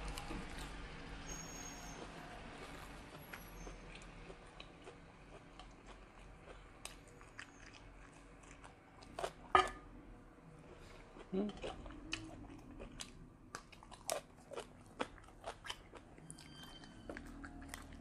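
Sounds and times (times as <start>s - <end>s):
close-up chewing: 0.0s - 1.0s, 1.8s - 9.5s, 10.5s - 18.0s.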